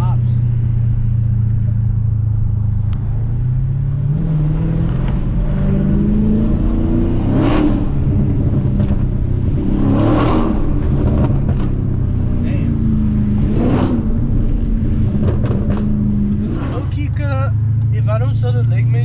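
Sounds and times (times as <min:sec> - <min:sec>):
exhaust blasts: 0:00.0 - 0:19.0
loud car engine revving: 0:00.0 - 0:19.0.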